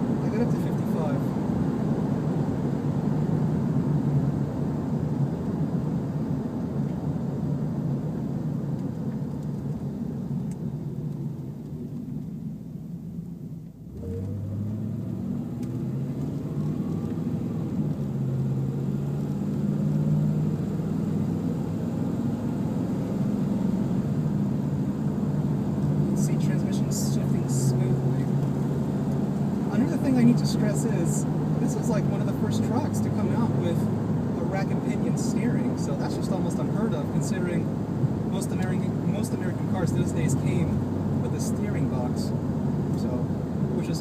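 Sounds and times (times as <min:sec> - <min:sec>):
engine and road drone in car: 0:00.0 - 0:44.0.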